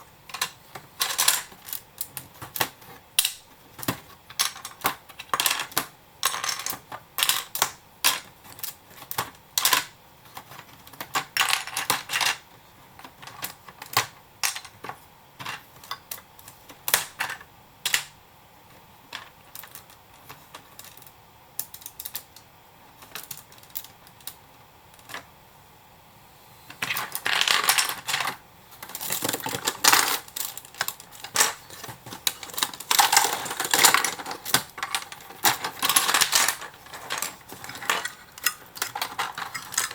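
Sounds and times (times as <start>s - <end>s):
plastic bricks clicking and clattering: 0.3s - 12.4s, 13.0s - 18.1s, 19.1s - 22.4s, 26.8s - 39.9s.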